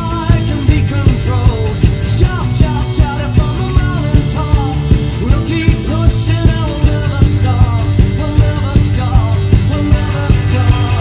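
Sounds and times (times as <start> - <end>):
rock song with singer: 0.0 - 11.0
steady drum beat: 0.0 - 11.0.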